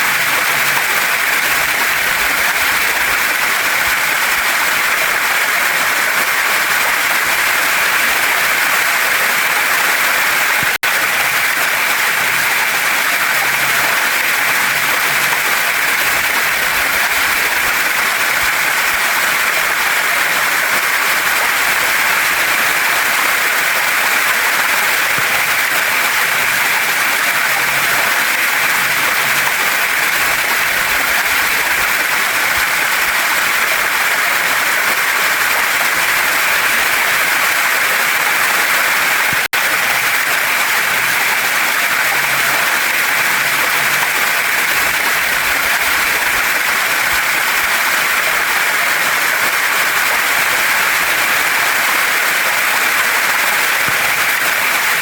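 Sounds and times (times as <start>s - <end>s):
waterfall and stream over rocks: 0.0s - 55.0s.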